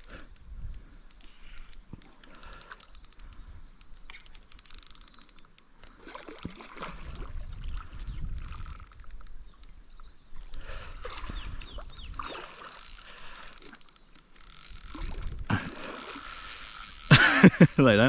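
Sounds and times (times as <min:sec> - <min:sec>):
fishing reel clicking: 0:00.0 - 0:10.7, 0:11.6 - 0:18.0.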